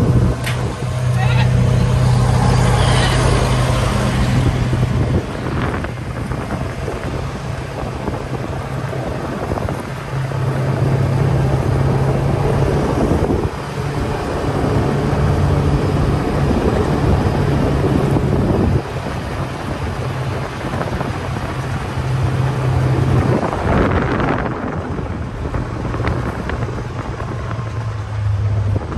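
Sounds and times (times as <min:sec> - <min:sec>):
engine running with low hum: 0:00.0 - 0:28.9
wind noise on microphone: 0:00.0 - 0:28.9.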